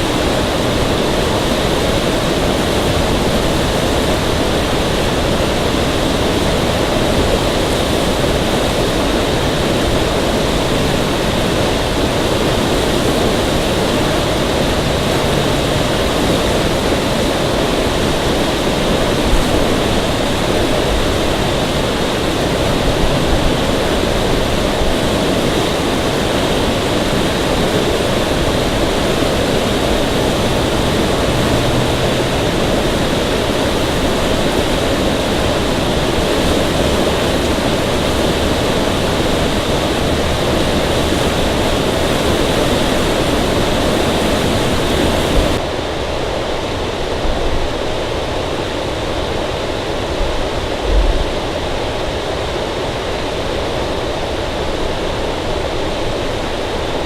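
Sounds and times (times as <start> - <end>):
loud rushing noise: 0.0 - 57.0.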